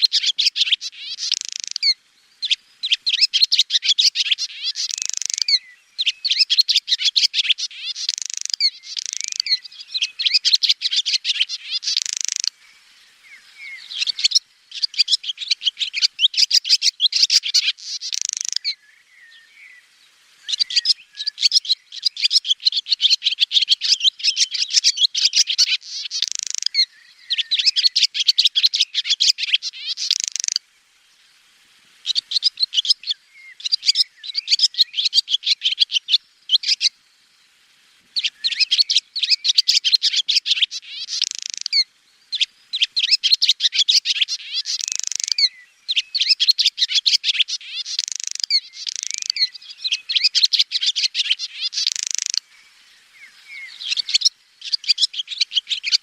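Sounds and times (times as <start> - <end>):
swallow twittering: 0.0 - 30.6, 32.0 - 37.0, 38.2 - 56.0.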